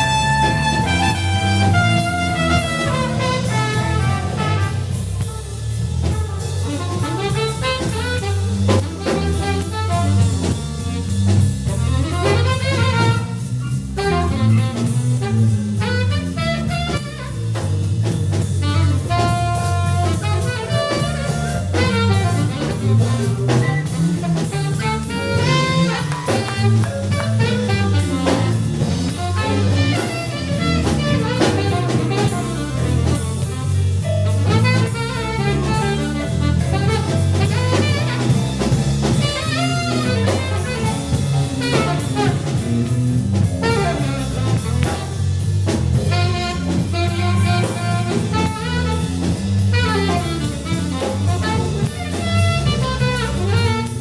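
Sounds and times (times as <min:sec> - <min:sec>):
bass line: 0:00.0 - 0:54.0
drum kit: 0:00.0 - 0:54.0
jazz melody line: 0:00.0 - 0:54.0.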